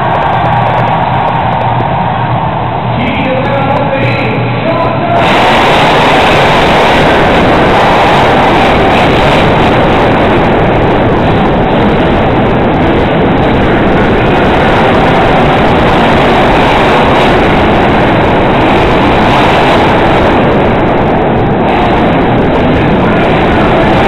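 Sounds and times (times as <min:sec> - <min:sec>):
monster truck engines roaring: 0:00.0 - 0:24.0.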